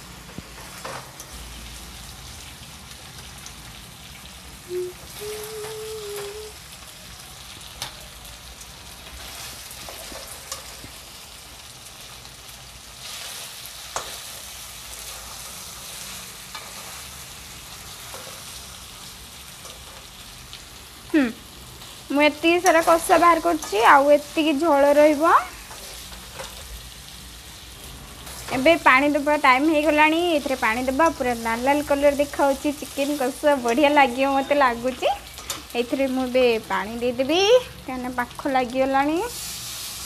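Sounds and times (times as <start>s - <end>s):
food sizzling in oil: 0.0s - 40.0s.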